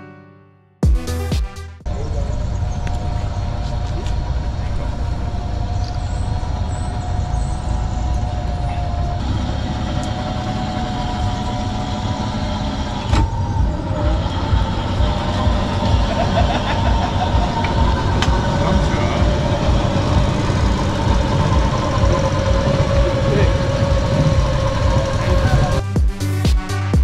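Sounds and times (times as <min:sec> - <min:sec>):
electric car rumble and whine: 0:01.9 - 0:25.8.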